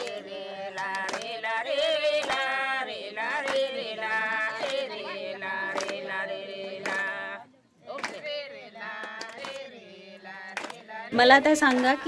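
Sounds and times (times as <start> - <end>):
hands clapping: 0.0 - 12.0
women singing a folk song: 0.0 - 12.0.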